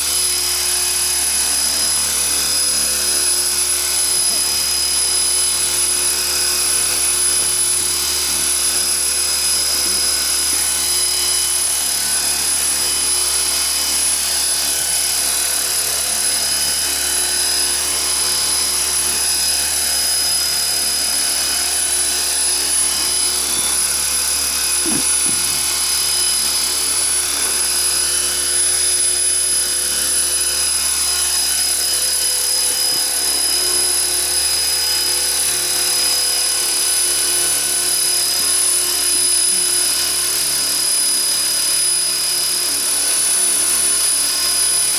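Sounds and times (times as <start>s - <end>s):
model helicopter motor whine: 0.0s - 44.9s
rotor blades whirring: 0.0s - 44.9s.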